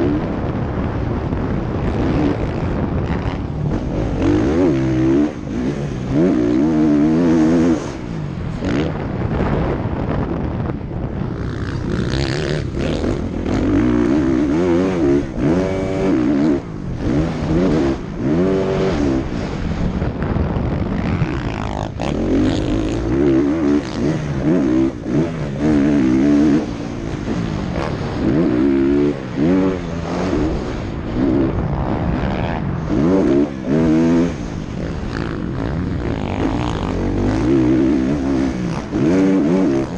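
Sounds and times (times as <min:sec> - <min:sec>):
motocross bike engine revving: 0:00.0 - 0:10.1, 0:11.2 - 0:39.9
wind rush: 0:00.0 - 0:39.9.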